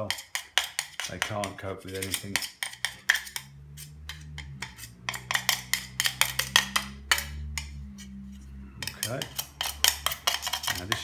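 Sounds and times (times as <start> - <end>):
hand tool scraping metal plate: 0.0 - 11.0
faint low hum: 1.2 - 11.0.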